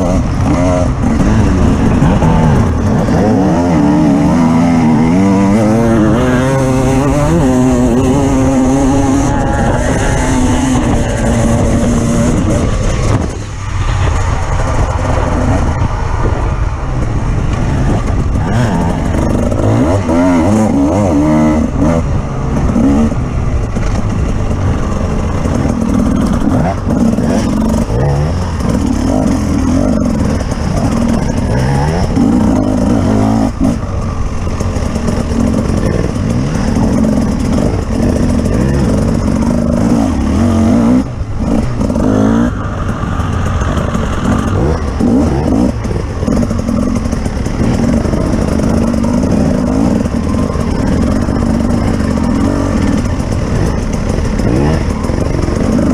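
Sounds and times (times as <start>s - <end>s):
off-road vehicle engine revving: 0.0s - 55.9s.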